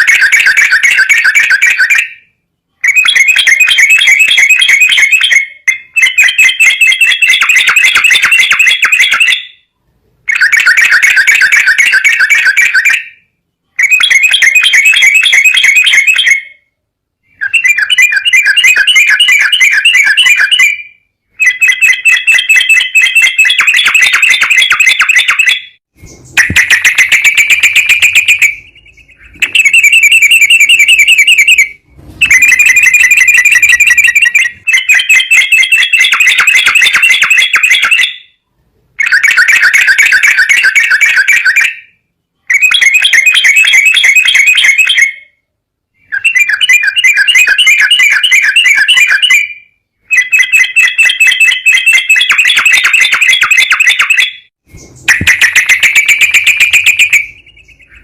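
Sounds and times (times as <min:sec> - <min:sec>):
shrill fast bird trill: 0:00.0 - 0:45.4, 0:46.0 - 0:58.0.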